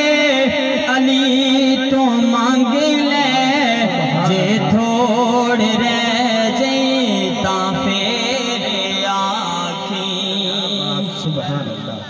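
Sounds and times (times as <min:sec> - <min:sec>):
man singing over loudspeaker: 0:00.0 - 0:12.0.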